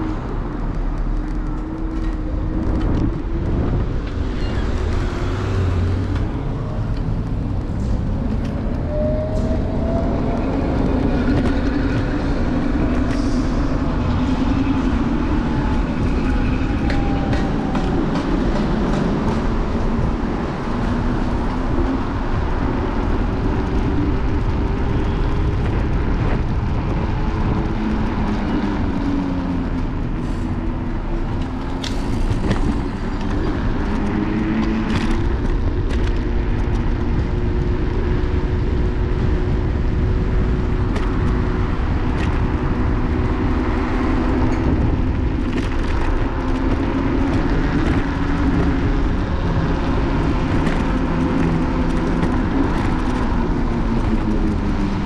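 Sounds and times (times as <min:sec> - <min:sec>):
road and wind rumble: 0:00.0 - 0:55.0.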